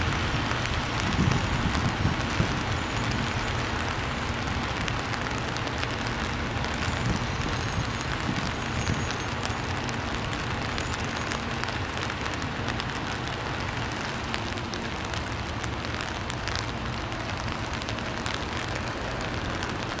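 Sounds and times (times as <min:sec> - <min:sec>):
rain falling on an umbrella: 0:00.0 - 0:20.0.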